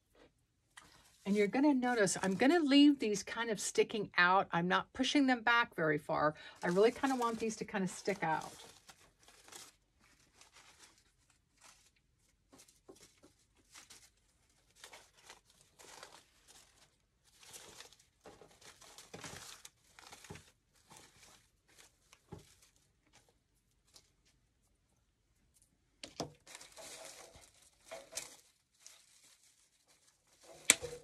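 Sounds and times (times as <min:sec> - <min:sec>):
rustling and crinkling of artificial leaves: 0:00.0 - 0:04.3, 0:05.0 - 0:31.0.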